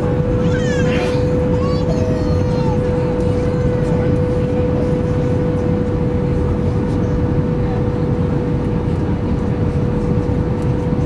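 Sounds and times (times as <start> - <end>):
constant droning tone: 0.0 - 11.0
engines and rushing air rumble: 0.0 - 11.0.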